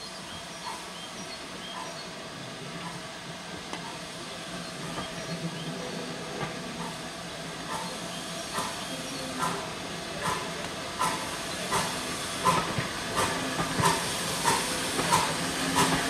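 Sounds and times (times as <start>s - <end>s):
steam hissing: 0.0s - 16.0s
train rolling: 0.0s - 16.0s.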